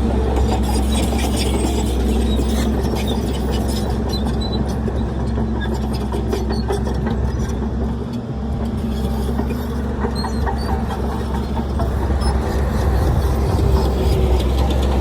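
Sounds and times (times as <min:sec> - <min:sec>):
diesel machinery engine drone: 0:00.0 - 0:15.0.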